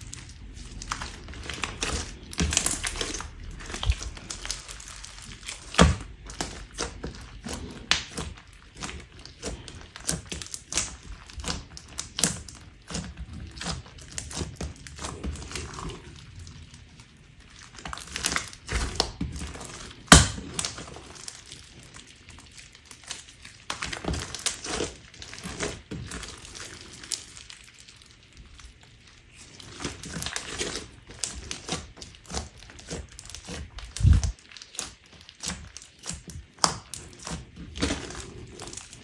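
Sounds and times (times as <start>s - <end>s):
crunchy slime crackling: 0.0s - 39.0s.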